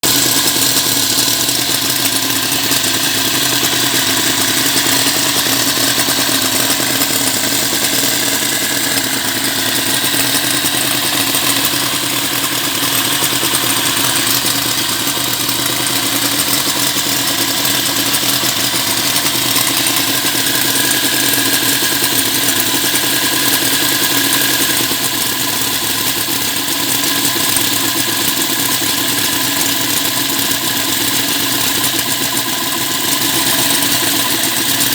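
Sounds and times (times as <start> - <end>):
small engine running steadily: 0.0 - 34.9.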